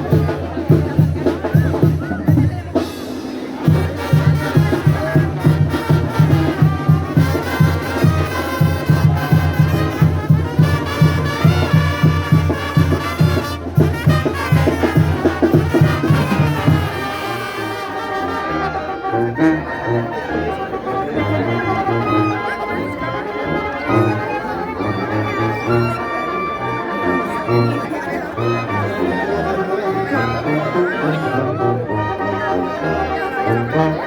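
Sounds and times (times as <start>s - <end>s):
brass band music: 0.0s - 34.0s.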